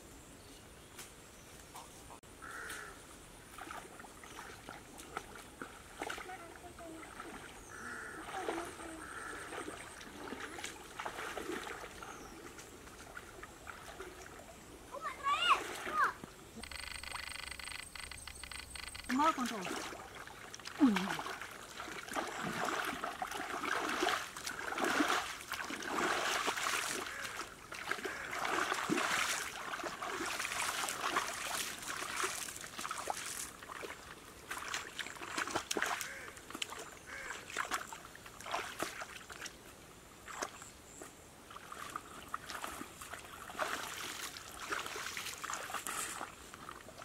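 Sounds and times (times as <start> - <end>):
muddy water splashing: 3.4 - 47.0.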